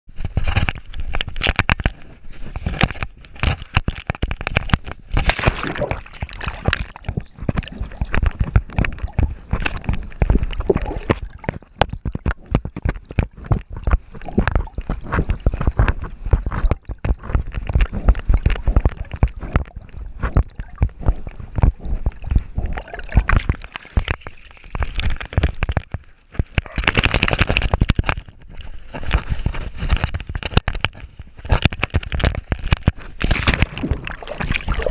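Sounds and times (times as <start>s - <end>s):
water sloshing and gurgling: 0.2s - 34.9s.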